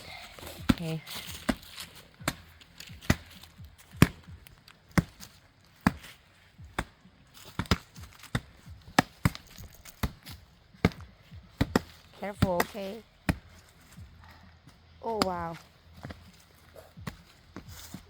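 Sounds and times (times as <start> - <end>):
wood being chopped: 0.6 - 14.0, 15.0 - 16.3, 17.0 - 17.7.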